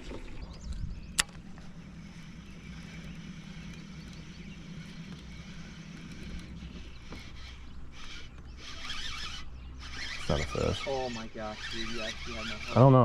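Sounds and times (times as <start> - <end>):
small boat motor humming: 0.0 - 13.0.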